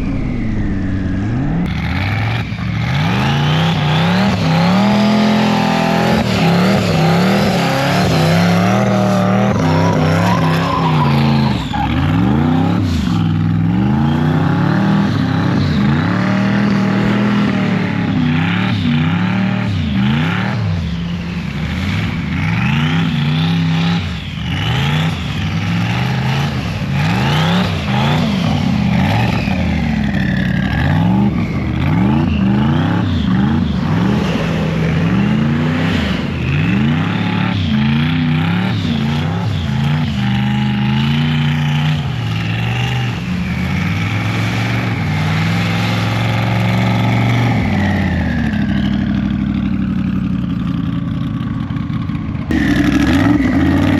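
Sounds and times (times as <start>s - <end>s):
car engine revving hard: 0.0s - 49.8s, 52.5s - 53.9s.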